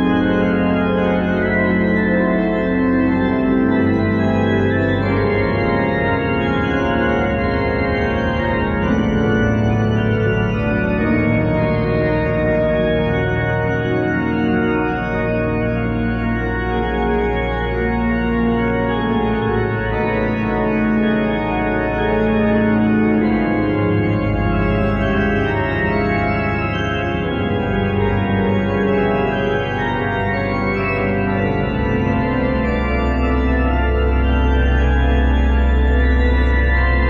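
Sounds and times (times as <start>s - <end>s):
deep organ pedal bass: 0.0s - 37.0s
pipe organ chords: 0.0s - 37.0s.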